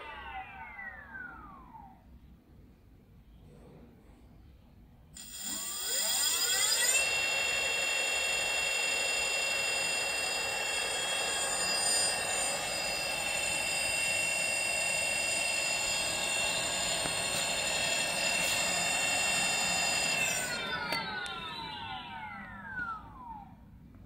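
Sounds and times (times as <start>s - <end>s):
electric motor whine: 0.0s - 2.0s, 5.2s - 23.5s.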